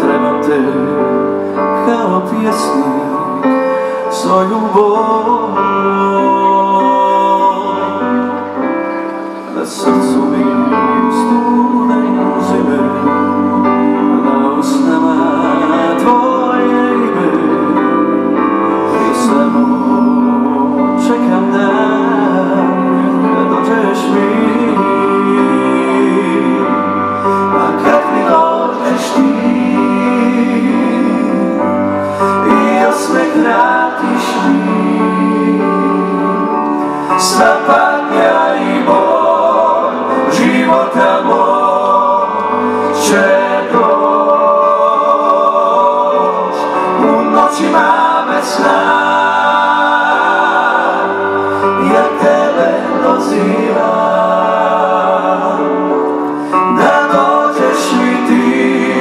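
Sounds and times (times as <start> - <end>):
male vocal group singing harmony: 0.0 - 59.0.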